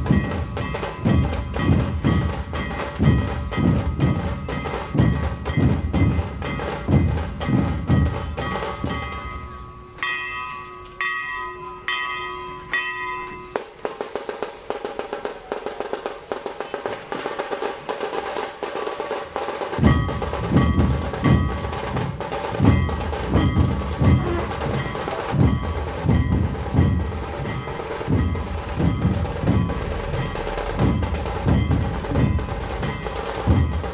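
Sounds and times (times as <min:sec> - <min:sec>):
music with steady drum beat: 0:00.0 - 0:09.9, 0:13.3 - 0:33.9
held chiming notes: 0:00.0 - 0:13.9, 0:19.8 - 0:33.9
light ticking percussion: 0:00.0 - 0:33.9.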